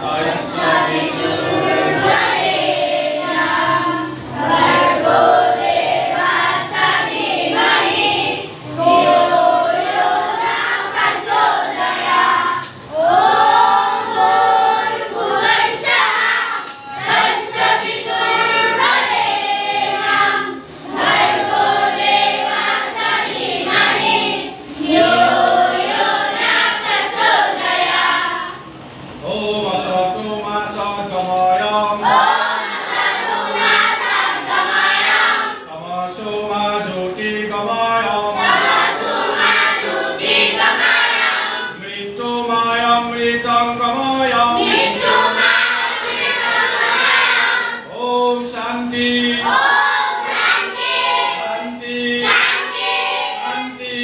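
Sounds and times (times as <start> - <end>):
children singing in unison: 0.0 - 29.0, 31.9 - 35.8, 38.0 - 41.9, 44.1 - 54.0.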